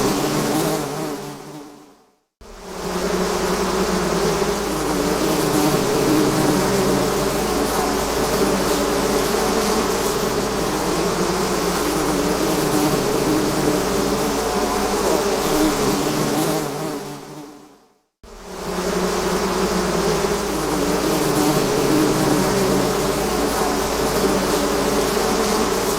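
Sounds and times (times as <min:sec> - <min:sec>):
swarm of bees buzzing: 0:00.0 - 0:17.7, 0:18.3 - 0:25.9.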